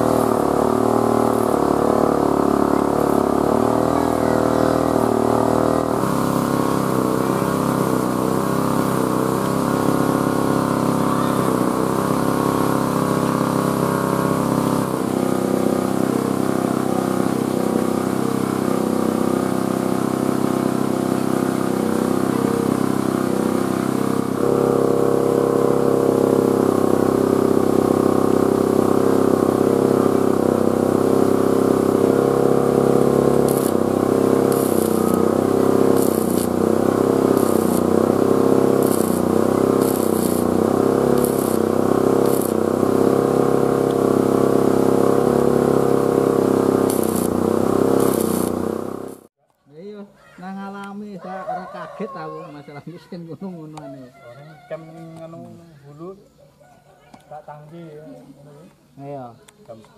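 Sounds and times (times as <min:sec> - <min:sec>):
engine running: 0:00.0 - 0:49.3.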